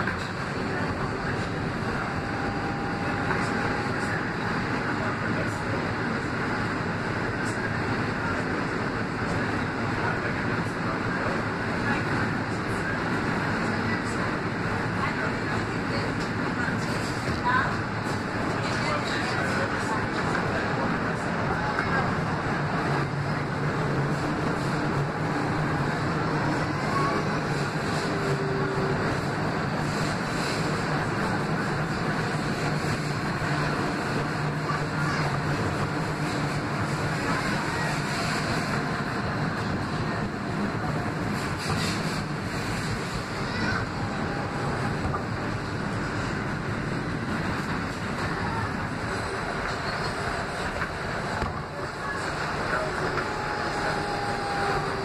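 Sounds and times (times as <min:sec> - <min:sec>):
subway wheels rumbling on rails: 0:00.0 - 0:55.0.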